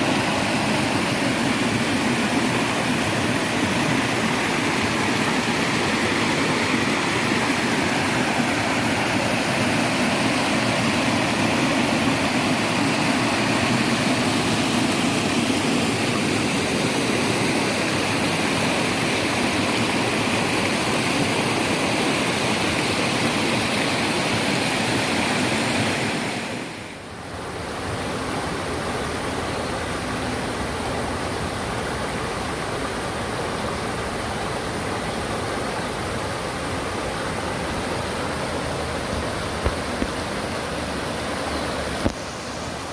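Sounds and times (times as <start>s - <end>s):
stream and waterfall rushing: 0.0s - 42.9s.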